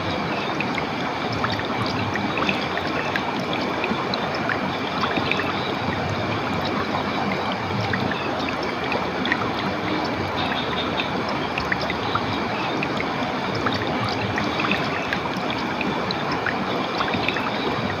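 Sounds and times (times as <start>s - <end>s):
stream water running: 0.0s - 18.0s.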